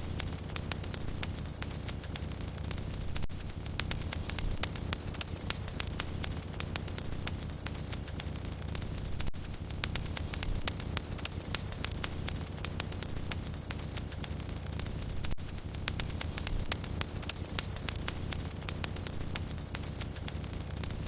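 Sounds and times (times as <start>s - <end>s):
low rumble of flames: 0.0s - 21.0s
wood fire pops and snaps: 0.0s - 21.0s.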